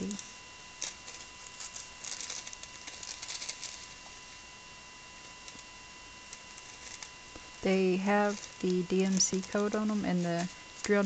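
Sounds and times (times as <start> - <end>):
plastic packets crinkling: 0.0 - 4.2, 5.3 - 11.0.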